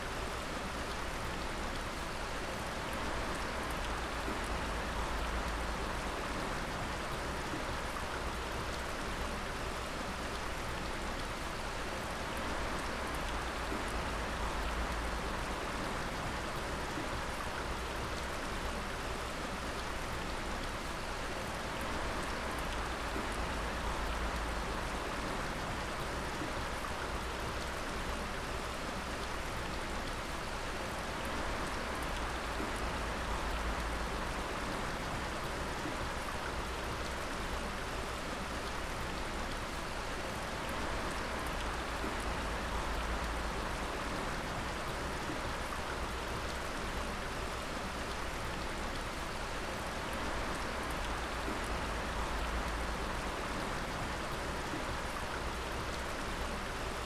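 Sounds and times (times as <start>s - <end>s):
water dripping onto rock and pools: 0.0s - 57.0s.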